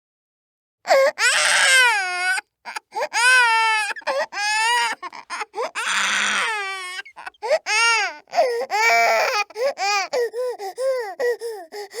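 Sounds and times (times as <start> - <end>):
infant crying: 0.9 - 12.0.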